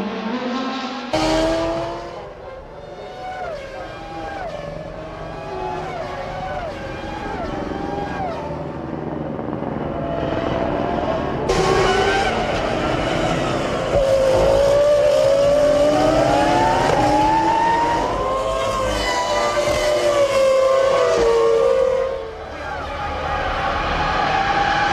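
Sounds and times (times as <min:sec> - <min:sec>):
racing car engines revving: 0:00.0 - 0:24.9.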